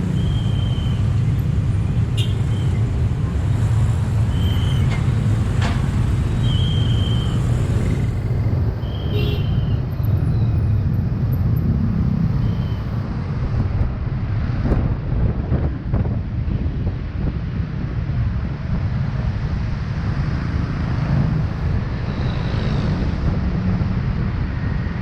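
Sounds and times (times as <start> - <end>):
motorcycle road noise: 0.0 - 25.0.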